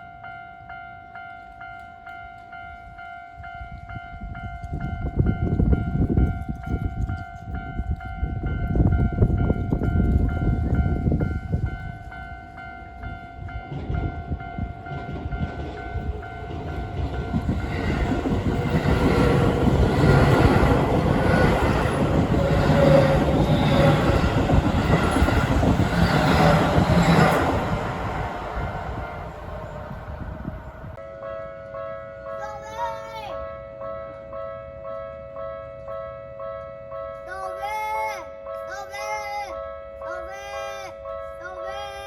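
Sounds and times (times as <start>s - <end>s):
level-crossing warning bell: 0.0s - 42.0s
train passing: 0.6s - 42.0s.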